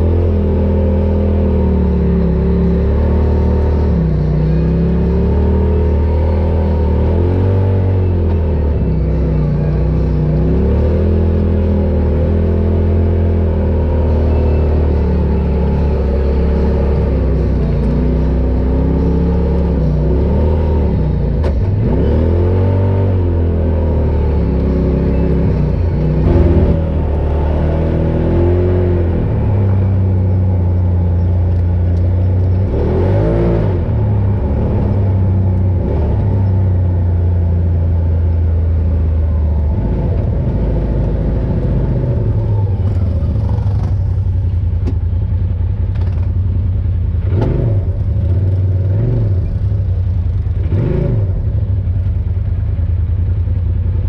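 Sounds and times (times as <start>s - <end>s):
off-road vehicle engine revving: 0.0s - 45.0s, 47.0s - 52.1s.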